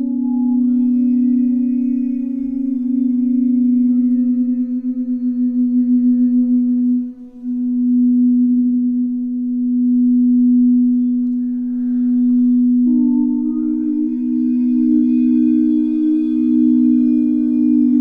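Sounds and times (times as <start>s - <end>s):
singing bowl low tone: 0.0s - 18.0s.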